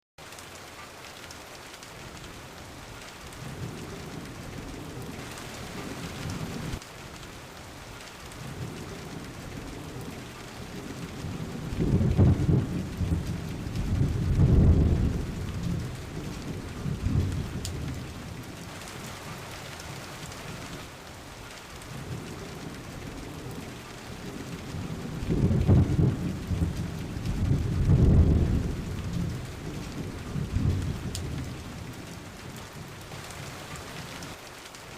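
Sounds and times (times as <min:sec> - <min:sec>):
steady rain falling: 0:00.2 - 0:34.9
thunder rumbling: 0:03.3 - 0:06.8, 0:08.3 - 0:20.8, 0:21.8 - 0:34.3.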